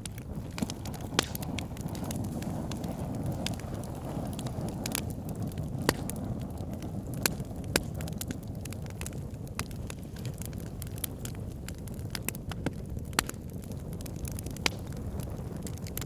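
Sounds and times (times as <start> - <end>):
fire crackling: 0.0 - 16.0
flames rushing: 0.0 - 16.0
loud sharp fire pops: 0.0 - 16.0.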